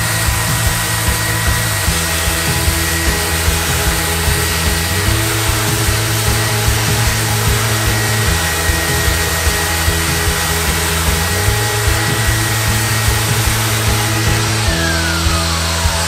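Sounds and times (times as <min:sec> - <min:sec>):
background music: 0:00.0 - 0:16.0
orbital sander whirring: 0:00.0 - 0:16.0.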